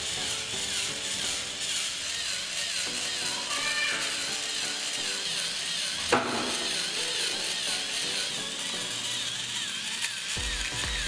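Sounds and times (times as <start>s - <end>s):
small motor whining: 0.0s - 11.0s.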